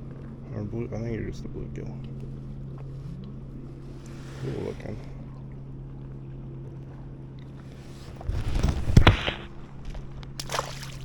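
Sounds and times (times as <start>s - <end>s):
motorboat engine droning: 0.0s - 11.0s.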